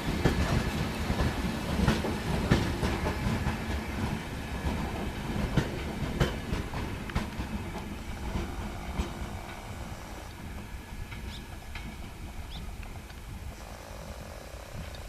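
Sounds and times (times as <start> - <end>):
train rumbling past: 0.0 - 15.0
wheels clacking over rail joints: 0.0 - 15.0.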